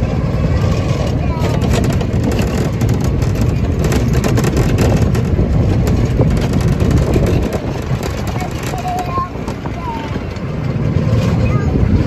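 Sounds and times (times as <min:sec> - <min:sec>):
constant rattling: 0:00.0 - 0:12.0
go-kart engine and road noise: 0:00.0 - 0:12.0.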